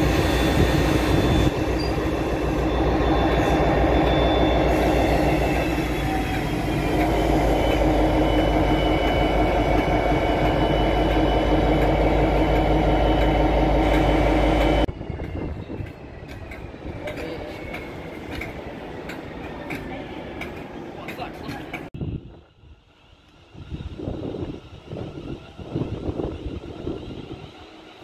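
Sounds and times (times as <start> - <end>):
diesel locomotive engine passing: 0.0 - 28.0.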